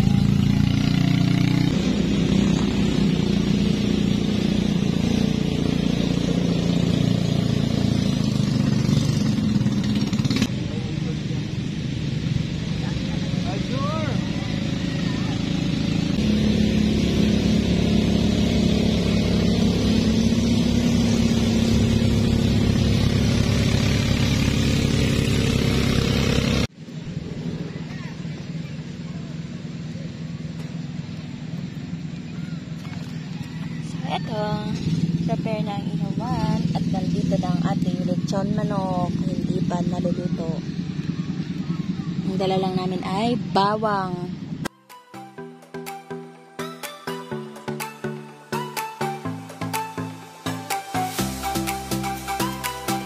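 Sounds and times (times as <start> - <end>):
vehicle engine running: 0.0 - 44.7.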